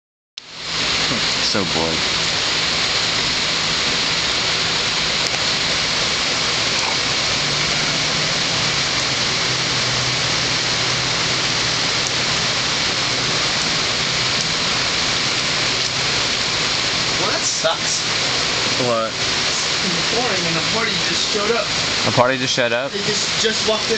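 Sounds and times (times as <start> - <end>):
heavy rain pouring: 0.4 - 23.9.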